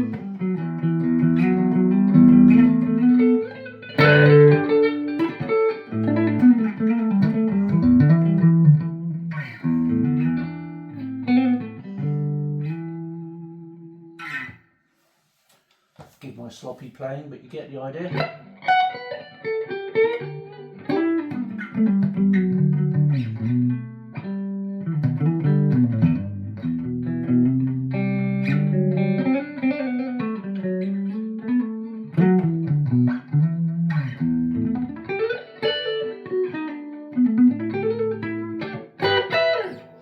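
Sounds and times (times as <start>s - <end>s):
clean electric guitar with reverb: 0.0s - 14.6s, 18.1s - 40.0s.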